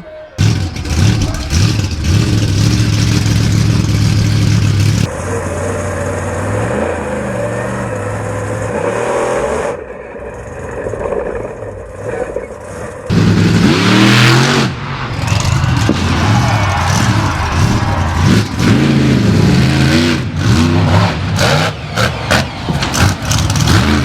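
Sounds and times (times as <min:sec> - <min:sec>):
monster truck engines revving: 0:00.4 - 0:24.0.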